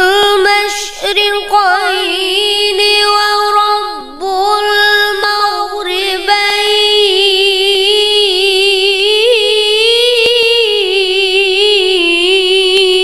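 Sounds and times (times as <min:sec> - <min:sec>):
boy chanting melodically: 0:00.0 - 0:13.0.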